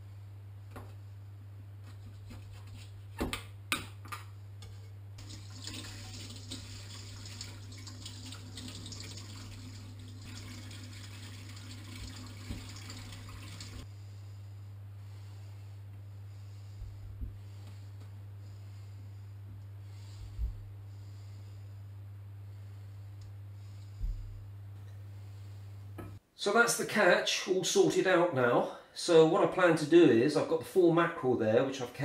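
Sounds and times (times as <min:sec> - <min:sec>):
steady low hum: 0:00.0 - 0:26.3.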